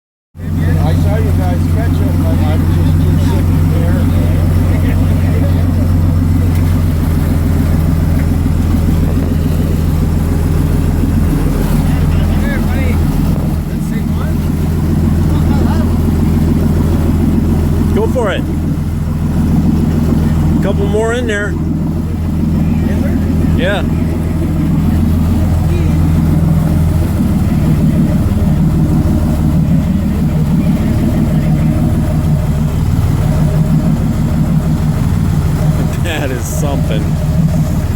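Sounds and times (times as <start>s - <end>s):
boat engine idling: 0.3s - 37.9s.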